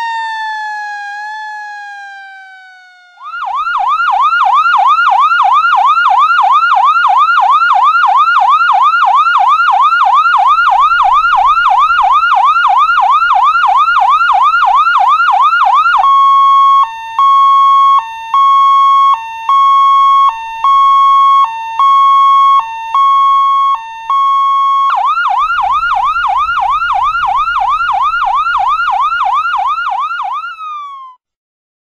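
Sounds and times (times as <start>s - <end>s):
police siren yelp: 0.0s - 31.2s
siren steady tone: 0.0s - 31.2s.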